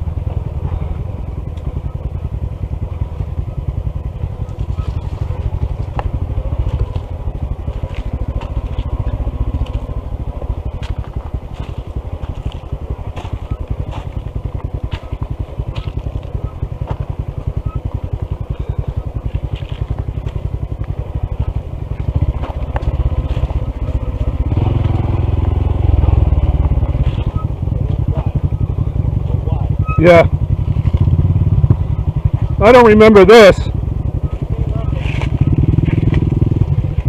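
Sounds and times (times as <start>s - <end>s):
single-cylinder engine thumping: 0.0s - 37.0s.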